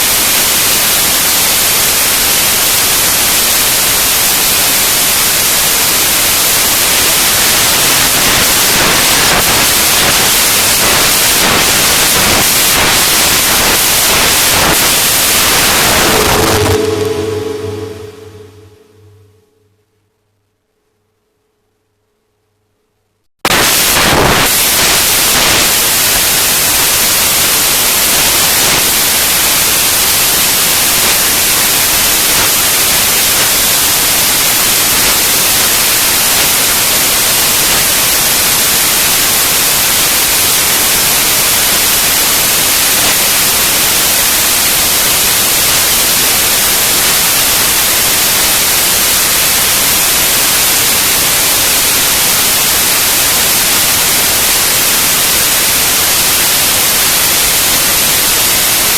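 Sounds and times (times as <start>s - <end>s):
static hiss: 0.0s - 19.5s, 23.4s - 58.9s.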